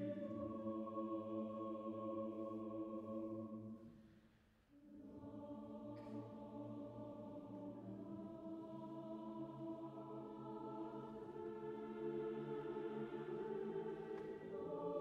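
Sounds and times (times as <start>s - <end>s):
choir and orchestra holding chord: 0.0s - 3.8s, 4.8s - 15.0s.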